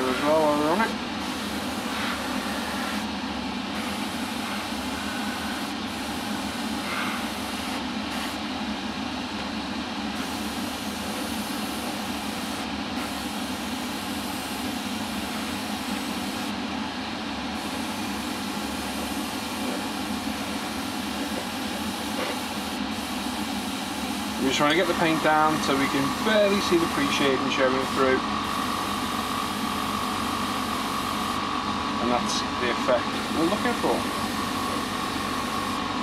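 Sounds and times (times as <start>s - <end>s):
airbrush air hiss: 0.0s - 3.1s, 3.7s - 8.5s, 10.2s - 16.6s, 17.6s - 31.4s, 33.1s - 35.9s
constant low hum: 0.0s - 36.0s.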